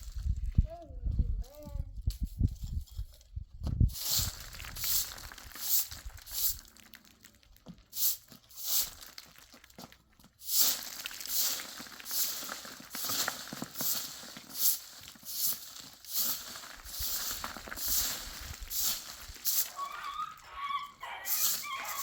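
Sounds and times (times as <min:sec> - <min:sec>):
footsteps crunching in snow: 0:04.0 - 0:22.0.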